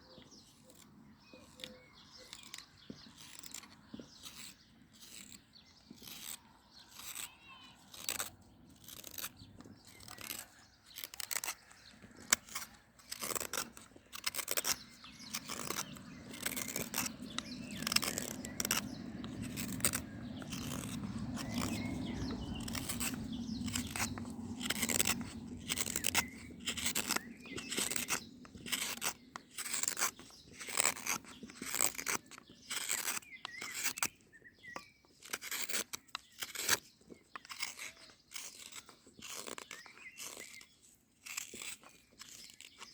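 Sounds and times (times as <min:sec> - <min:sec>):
wood carving scraping cuts: 0:00.0 - 0:42.9.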